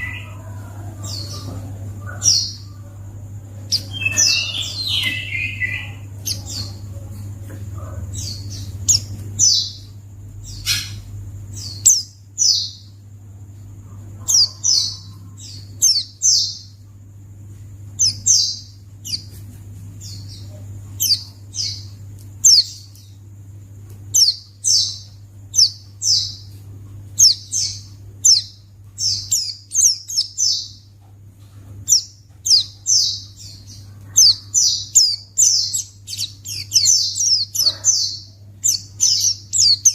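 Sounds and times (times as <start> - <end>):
bird high chirps: 0.0 - 3.0, 3.6 - 13.0, 14.2 - 16.8, 17.9 - 19.4, 20.0 - 23.2, 24.1 - 26.6, 27.2 - 31.1, 31.8 - 39.9.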